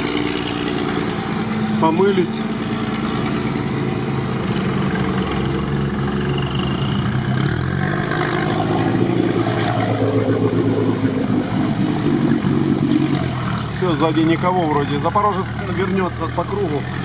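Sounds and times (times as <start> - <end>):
vehicle engine under load: 0.0 - 17.0.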